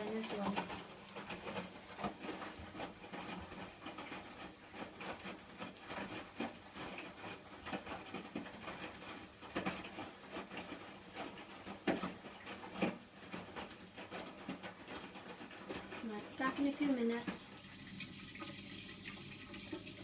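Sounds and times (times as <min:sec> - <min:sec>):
washing machine drum swishing: 0:00.0 - 0:20.0.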